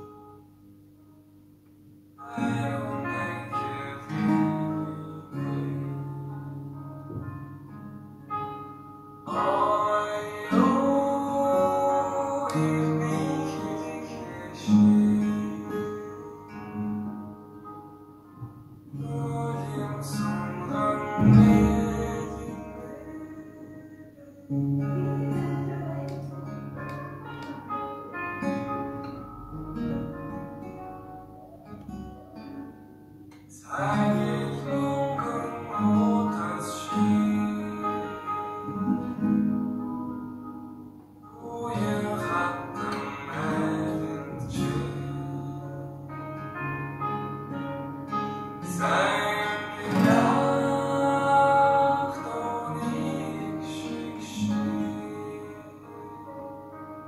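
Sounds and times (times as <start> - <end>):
acoustic guitar chords: 0.0 - 57.0.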